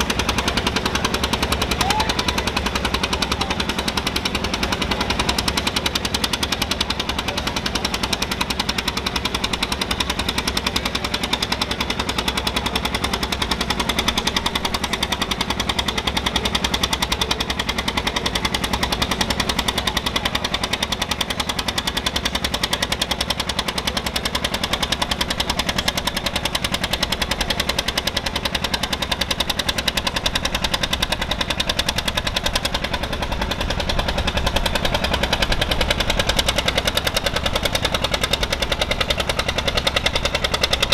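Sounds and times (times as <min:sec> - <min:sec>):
tractor engine exhaust popping: 0:00.0 - 0:40.9.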